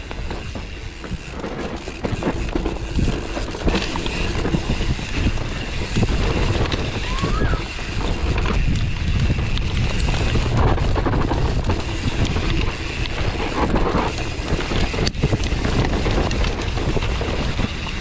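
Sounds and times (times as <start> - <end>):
mountain bike rumbling on dirt trail: 0.0 - 18.0
wind buffeting microphone: 0.0 - 18.0.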